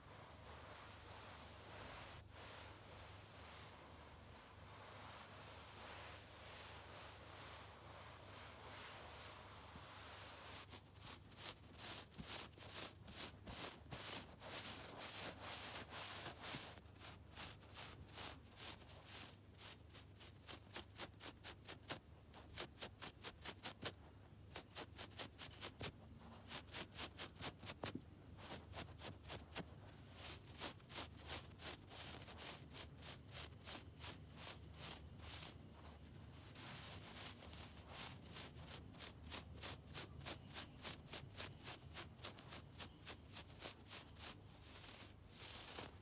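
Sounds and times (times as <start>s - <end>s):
fingernails scratching a shaggy rug: 0.0s - 46.0s.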